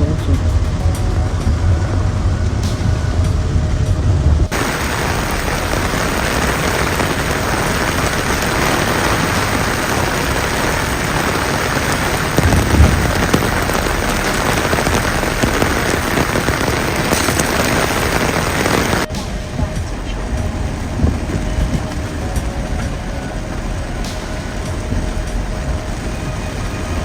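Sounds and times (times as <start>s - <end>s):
heavy rain pouring: 0.0s - 27.0s
low hum: 0.0s - 27.0s
low rumble: 0.0s - 27.0s.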